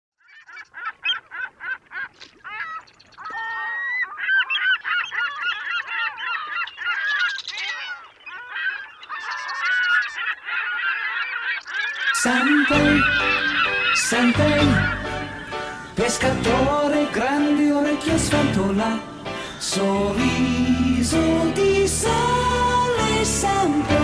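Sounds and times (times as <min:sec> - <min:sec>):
flock of birds calling: 0:00.2 - 0:24.0.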